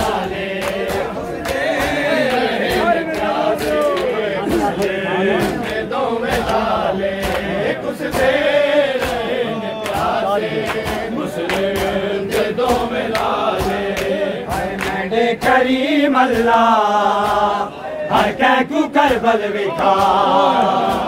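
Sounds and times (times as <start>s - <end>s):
men chanting a lament: 0.0s - 21.0s.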